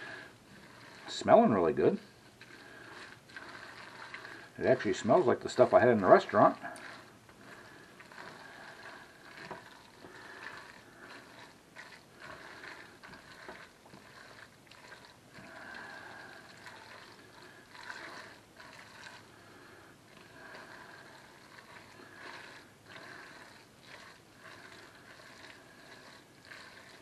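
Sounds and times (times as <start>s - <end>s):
utensil stirring in metal pot: 0.0s - 27.0s.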